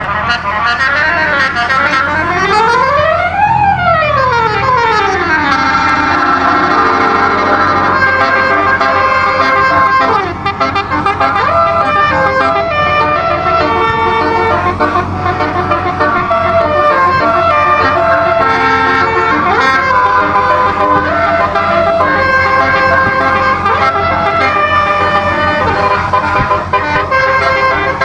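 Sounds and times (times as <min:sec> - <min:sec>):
air horns playing a tune: 0:00.0 - 0:28.0.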